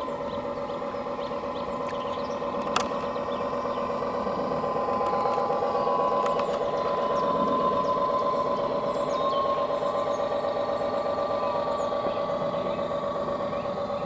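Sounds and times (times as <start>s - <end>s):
model boat motor running: 0.0s - 14.0s.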